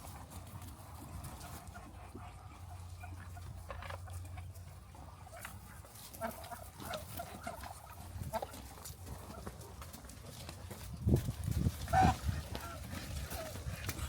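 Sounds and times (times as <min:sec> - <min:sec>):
poultry calling: 0:00.0 - 0:10.2, 0:11.6 - 0:14.0.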